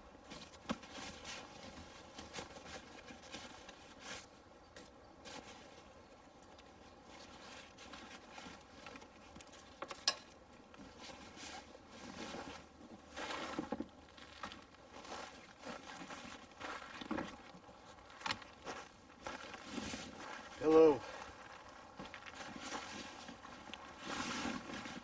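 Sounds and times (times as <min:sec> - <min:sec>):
backpack and gear rustling: 0:00.2 - 0:04.4, 0:05.2 - 0:09.8, 0:10.8 - 0:25.0.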